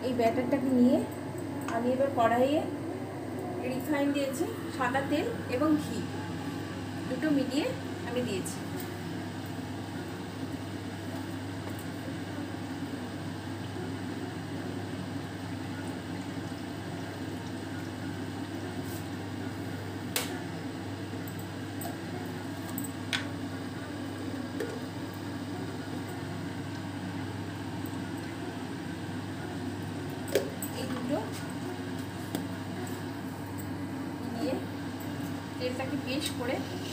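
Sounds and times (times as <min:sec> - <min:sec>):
low kitchen hum: 0:00.0 - 0:36.9
oil heating in a pan: 0:00.0 - 0:36.9.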